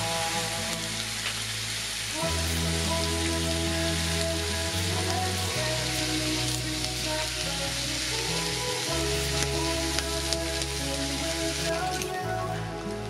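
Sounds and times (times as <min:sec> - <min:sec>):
instrumental background music: 0:00.0 - 0:13.0
meat sizzling on a grill: 0:00.0 - 0:13.0.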